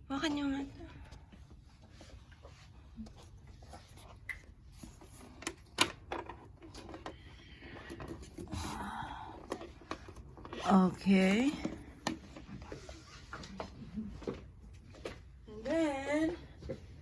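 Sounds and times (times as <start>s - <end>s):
faint handling sounds: 0.7s - 17.0s.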